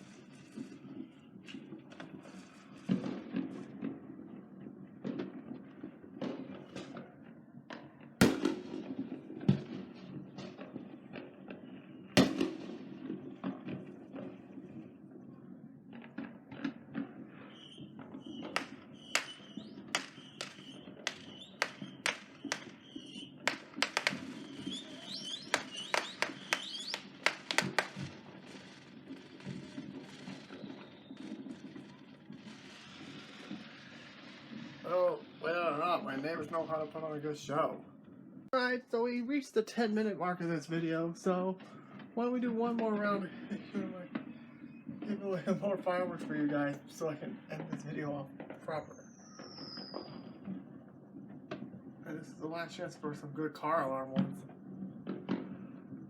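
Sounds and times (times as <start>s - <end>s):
loud fireworks booms: 0.0s - 37.9s, 40.4s - 56.0s
fireworks bangs and crackles: 0.0s - 56.0s.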